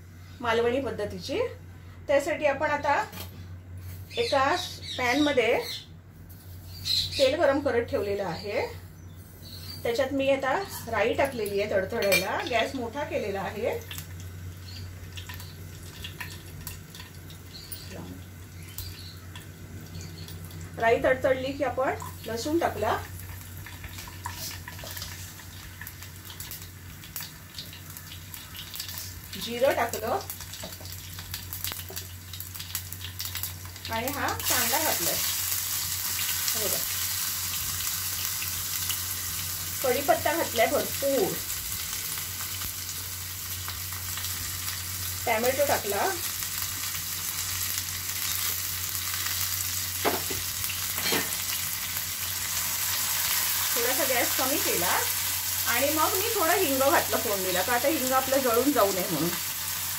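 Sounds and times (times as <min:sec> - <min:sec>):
seeds sizzling in hot oil: 0:06.3 - 0:59.9.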